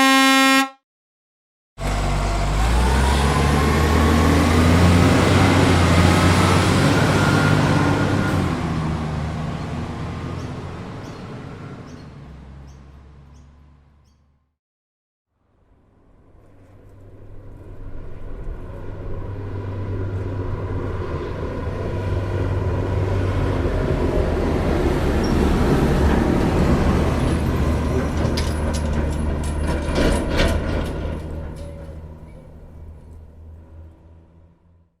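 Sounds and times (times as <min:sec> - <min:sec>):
heavy truck driving past: 0:01.8 - 0:14.4, 0:15.9 - 0:35.0.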